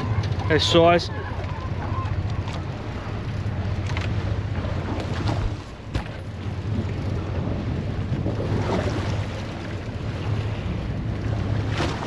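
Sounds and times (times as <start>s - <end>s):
boat engine humming: 0.0s - 12.0s
wind buffeting microphone: 0.0s - 12.0s.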